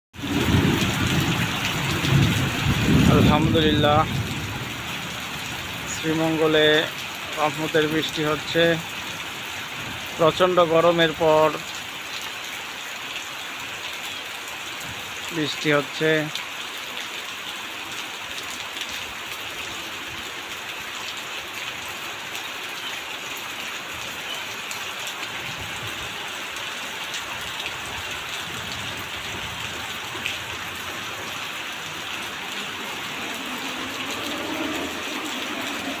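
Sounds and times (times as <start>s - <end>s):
heavy rain pouring: 0.1s - 36.0s.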